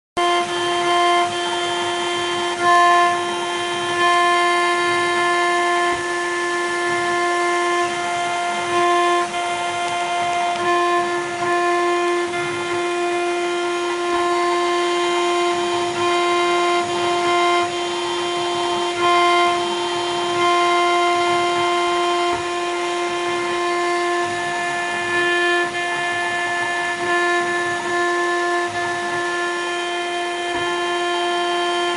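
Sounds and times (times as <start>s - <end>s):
router spindle whining: 0.2s - 31.9s.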